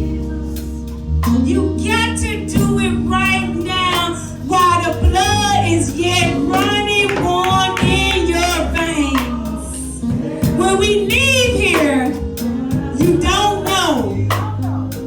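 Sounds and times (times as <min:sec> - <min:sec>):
steady bass: 0:00.0 - 0:15.0
sustained organ tones: 0:00.0 - 0:15.0
voices singing gospel: 0:00.0 - 0:15.0.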